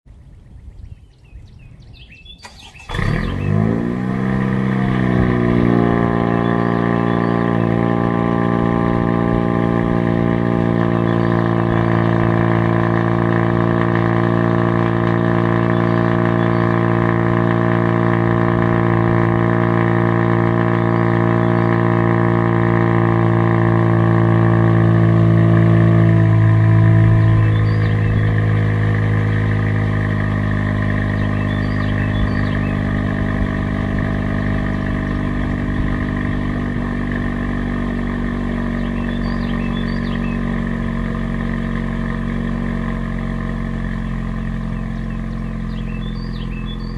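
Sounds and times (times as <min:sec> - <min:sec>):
car engine starting and idling: 0:02.4 - 0:46.9.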